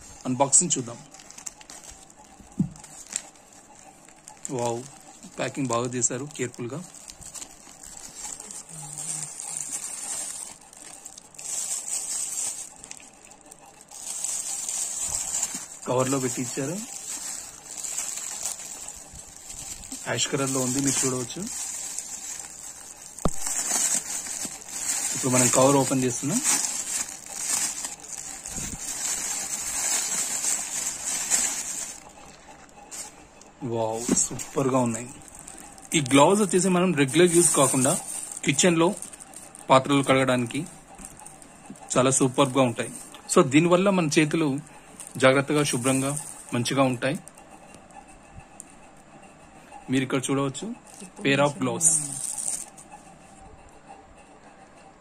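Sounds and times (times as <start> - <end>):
plastic packaging crinkling: 0.0 - 48.4, 50.7 - 53.4.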